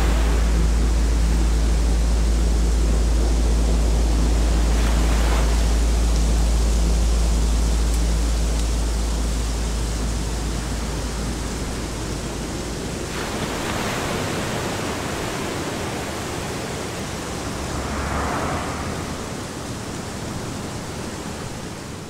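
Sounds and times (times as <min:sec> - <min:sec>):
ocean surf washing onto beach: 0:00.0 - 0:22.0.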